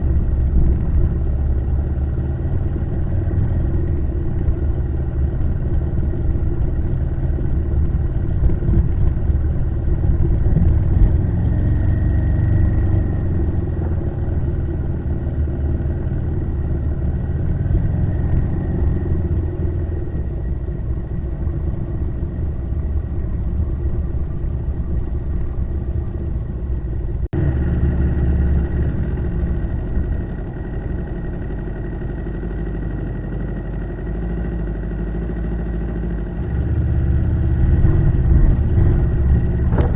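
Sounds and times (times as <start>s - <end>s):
low rumble: 0.0s - 39.9s
motorcycle engine running: 0.0s - 39.9s.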